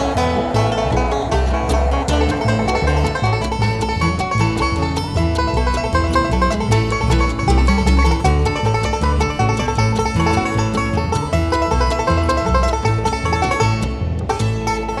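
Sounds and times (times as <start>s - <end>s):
bluegrass music: 0.0s - 15.0s
fast-picked banjo: 0.0s - 15.0s
steady bass beat: 0.0s - 15.0s.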